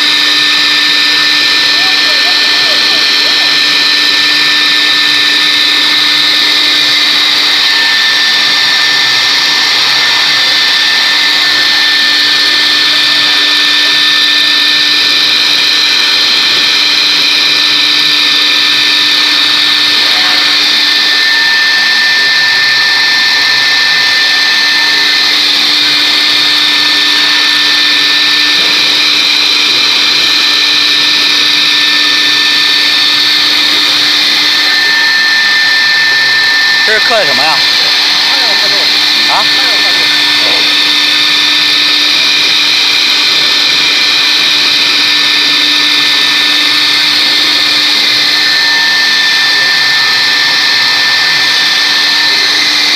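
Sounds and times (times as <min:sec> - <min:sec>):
router spindle high whine: 0:00.0 - 0:52.9.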